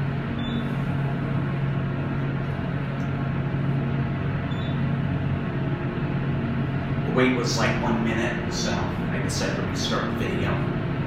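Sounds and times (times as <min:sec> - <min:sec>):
hydraulic elevator hum: 0:00.0 - 0:11.0.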